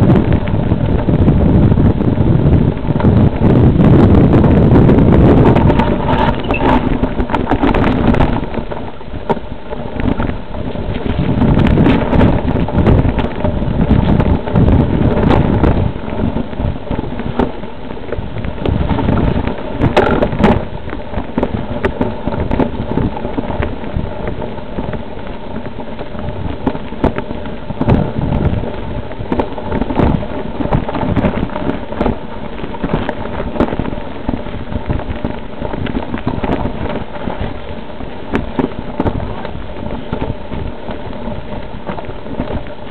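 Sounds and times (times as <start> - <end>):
bike rattles and knocks: 0.0 - 42.9
wind buffeting microphone: 0.0 - 42.9.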